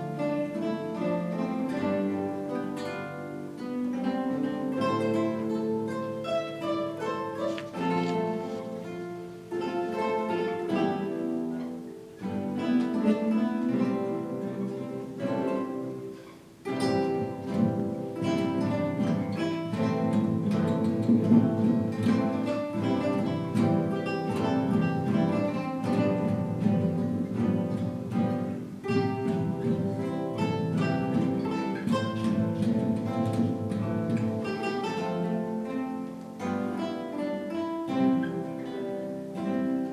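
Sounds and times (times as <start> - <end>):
guitar ensemble playing: 0.0 - 39.9.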